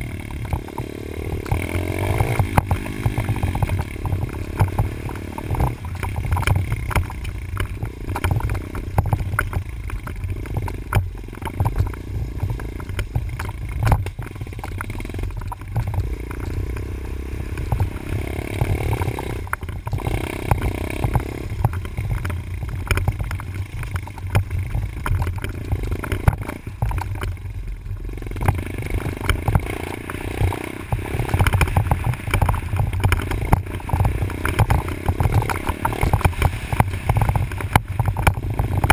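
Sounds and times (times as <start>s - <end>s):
dirt bike engine: 0.0s - 38.9s
rattling and clatter: 0.0s - 38.9s.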